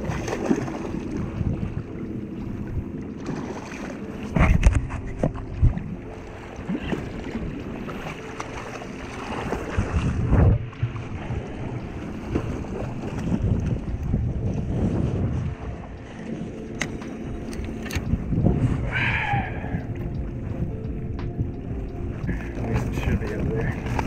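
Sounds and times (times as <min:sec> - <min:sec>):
water lapping: 0:00.0 - 0:24.0
wind buffeting microphone: 0:00.0 - 0:24.0.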